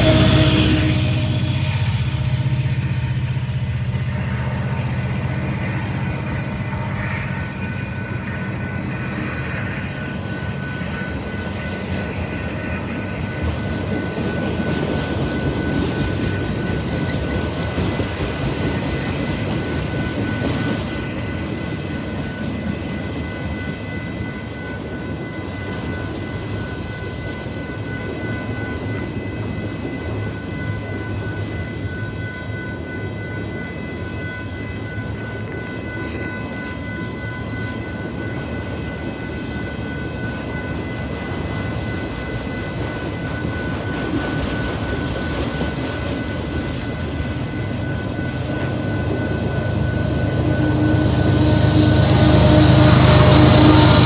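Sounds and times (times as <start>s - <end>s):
high-pitched ringing tones: 0.0s - 17.6s, 20.0s - 54.0s
freight train rumbling on rails: 0.0s - 54.0s.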